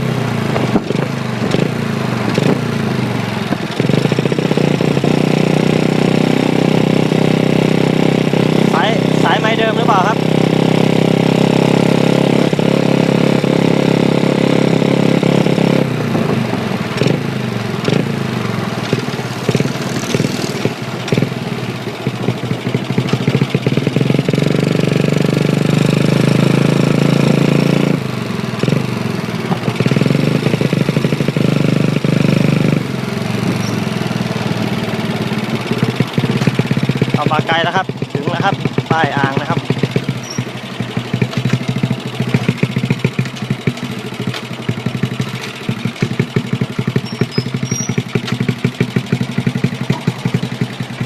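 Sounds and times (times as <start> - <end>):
minibike engine running: 0.0 - 51.0.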